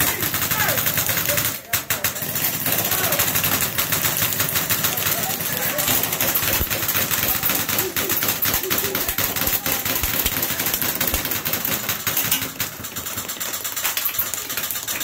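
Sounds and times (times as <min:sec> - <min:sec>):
airsoft guns firing full auto: 0:00.0 - 0:15.0.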